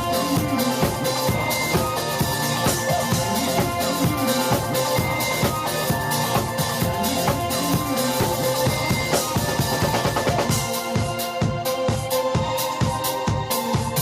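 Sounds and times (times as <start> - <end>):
band music: 0.0 - 14.0
drum kit beat: 0.0 - 14.0.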